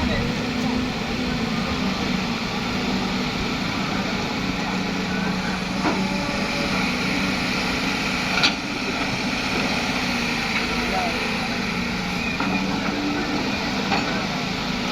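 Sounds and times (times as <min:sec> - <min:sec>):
heavy diesel machinery running: 0:00.0 - 0:14.9.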